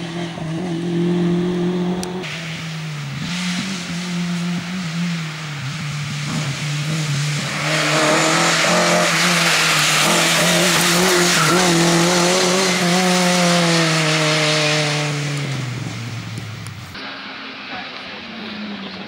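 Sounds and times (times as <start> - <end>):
rally car engine passing by: 0.0 - 19.0
tyre and exhaust rush: 0.0 - 19.0.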